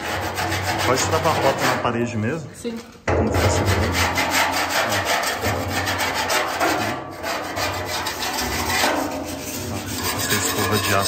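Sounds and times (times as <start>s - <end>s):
wire brush scraping iron door: 0.0s - 2.0s, 3.0s - 11.0s.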